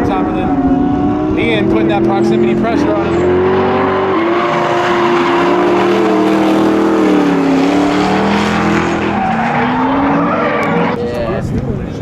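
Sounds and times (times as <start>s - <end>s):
car engines revving high: 0.0s - 12.0s.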